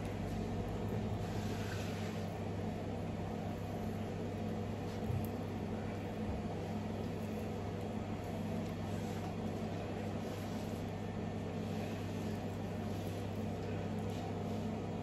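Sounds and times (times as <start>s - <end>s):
kitchen machine hum: 0.0s - 15.0s.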